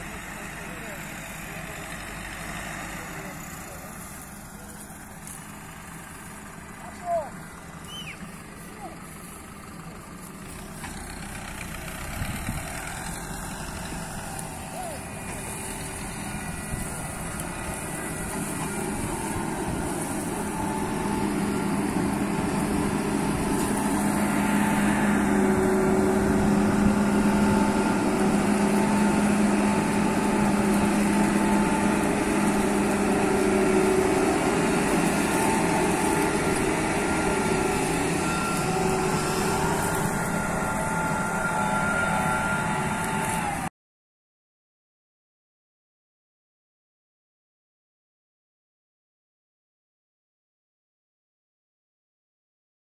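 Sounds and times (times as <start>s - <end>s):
combine harvester running: 0.0s - 43.7s.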